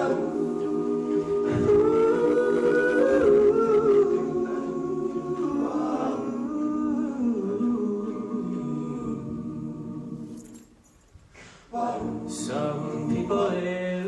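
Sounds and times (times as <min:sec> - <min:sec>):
men singing a cappella harmony: 0:00.0 - 0:10.4, 0:11.7 - 0:14.0.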